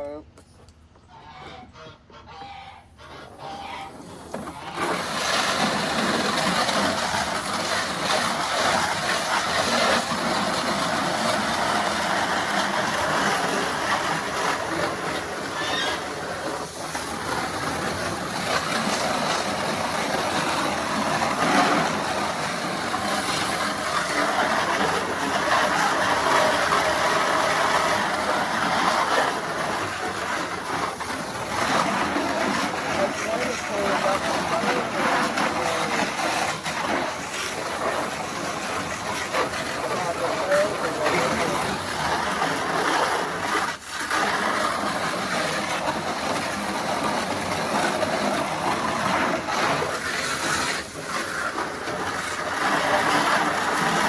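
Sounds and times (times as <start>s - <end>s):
water spraying with hiss: 4.0s - 54.0s.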